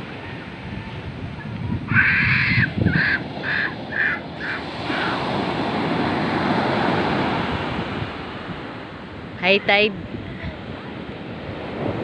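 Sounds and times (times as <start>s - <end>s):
surf breaking on beach: 0.0s - 12.0s.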